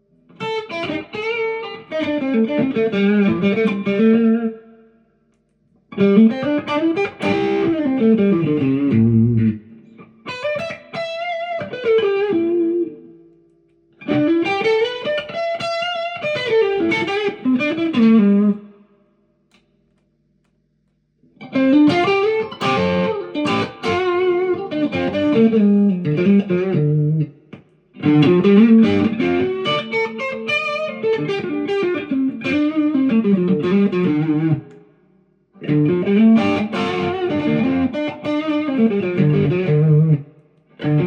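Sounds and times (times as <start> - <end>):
electric guitar melodic runs: 0.3 - 4.6, 5.9 - 13.0, 14.0 - 18.8, 21.4 - 34.9, 35.6 - 41.0.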